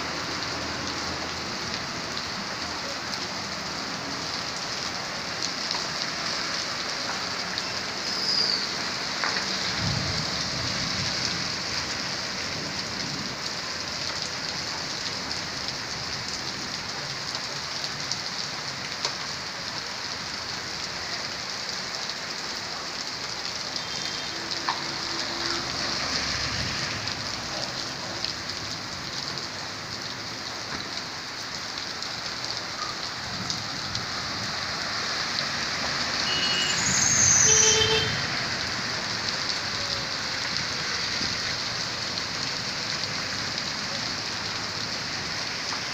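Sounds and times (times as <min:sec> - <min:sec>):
rain on wet pavement: 0:00.0 - 0:45.9.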